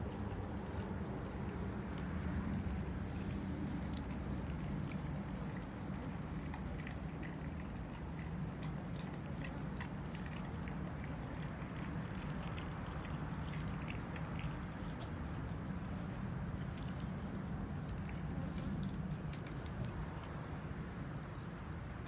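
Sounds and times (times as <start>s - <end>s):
puppy chewing wet meat: 0.0s - 22.0s
steady low hum: 0.0s - 22.0s.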